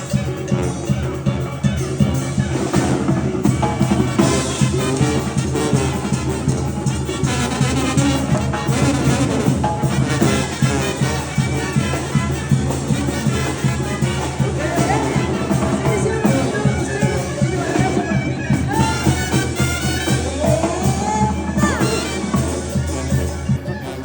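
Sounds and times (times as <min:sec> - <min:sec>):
brass instruments playing: 0:00.0 - 0:24.0.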